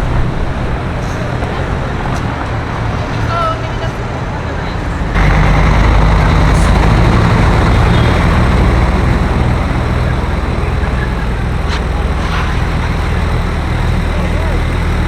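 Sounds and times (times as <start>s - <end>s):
street traffic noise: 0.0s - 15.0s
vehicle engine running close by: 0.0s - 15.0s.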